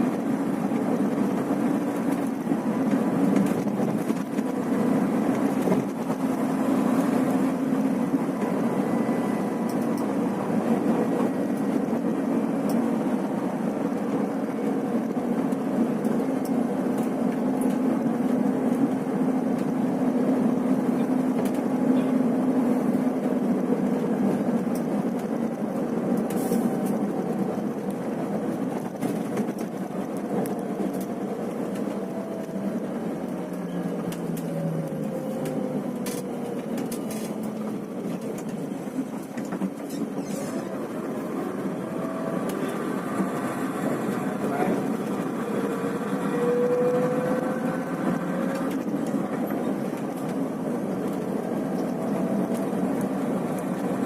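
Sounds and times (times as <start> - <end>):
bus engine droning: 0.0 - 54.0
road noise: 0.0 - 54.0.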